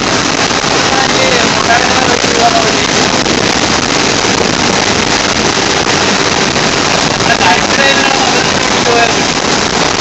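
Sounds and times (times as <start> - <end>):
bus road and engine noise: 0.0 - 10.0
rain beating on bus windows: 0.0 - 10.0.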